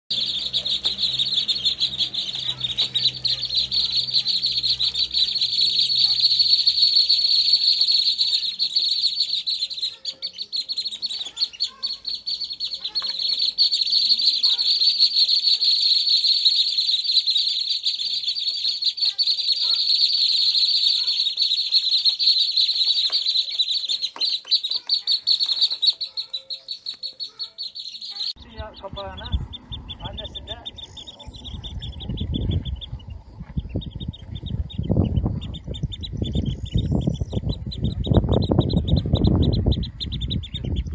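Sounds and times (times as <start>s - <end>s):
ducklings peeping: 0.1s - 40.9s.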